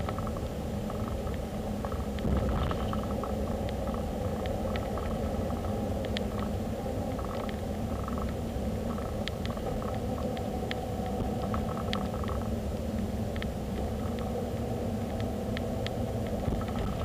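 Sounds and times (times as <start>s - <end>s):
faint ticks: 0.0s - 14.4s, 15.0s - 17.0s
car road and engine rumble: 0.0s - 17.0s.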